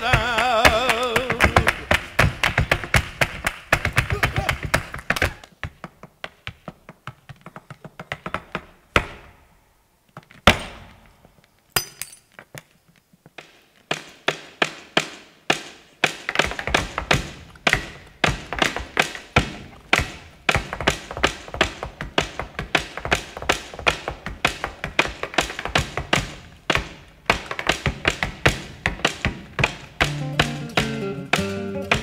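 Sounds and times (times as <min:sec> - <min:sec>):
dance shoes striking floor: 0:00.0 - 0:09.2, 0:13.4 - 0:32.0.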